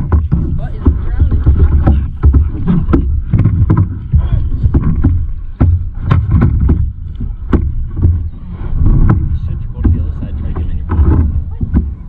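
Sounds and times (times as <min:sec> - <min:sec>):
paddles knocking on hulls: 0:00.0 - 0:12.0
steady low rumble: 0:00.0 - 0:12.0
water sloshing around kayaks: 0:00.0 - 0:12.0.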